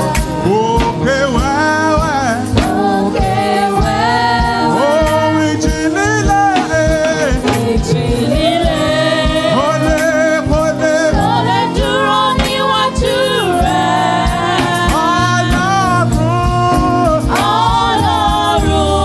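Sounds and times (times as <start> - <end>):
bass guitar: 0.0 - 19.0
drum beat: 0.0 - 19.0
group singing worship song: 0.0 - 19.0.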